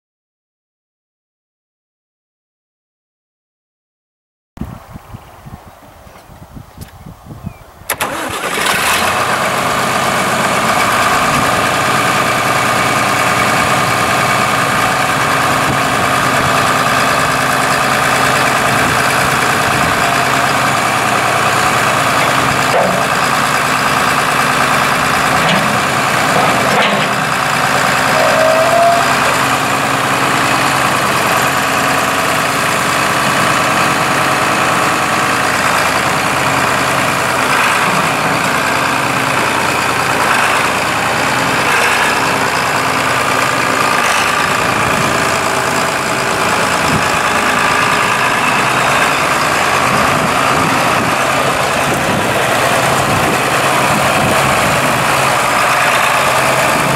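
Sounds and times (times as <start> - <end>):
tractor diesel engine running: 4.7 - 56.9.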